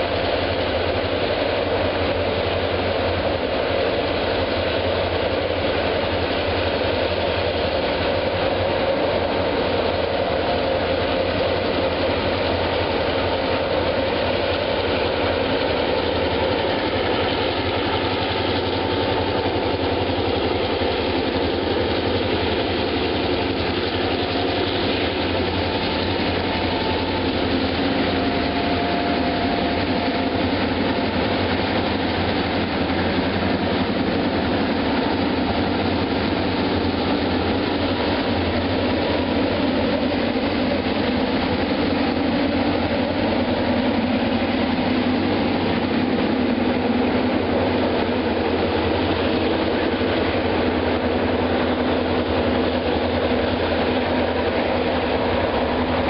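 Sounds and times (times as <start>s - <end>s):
locomotives working under load: 0.0s - 56.0s.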